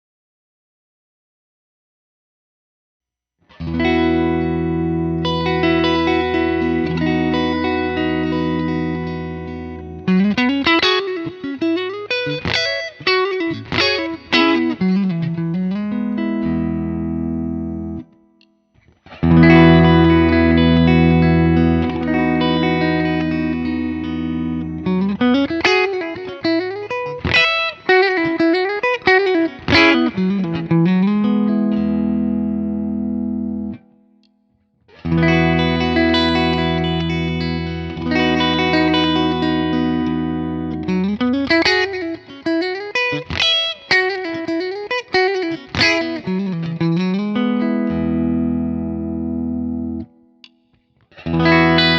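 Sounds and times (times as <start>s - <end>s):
electric guitar through amp: 3.5s - 34.0s, 34.9s - 51.9s.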